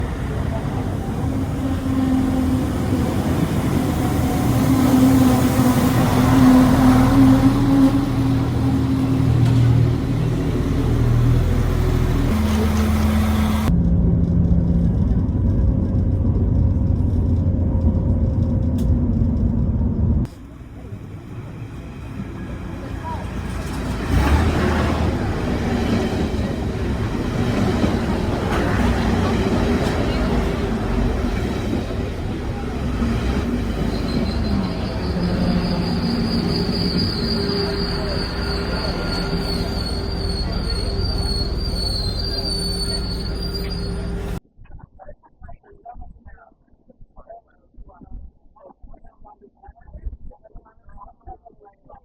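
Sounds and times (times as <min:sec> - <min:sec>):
rumbling road noise: 0:00.0 - 0:44.4
vehicle droning hum: 0:00.0 - 0:44.4.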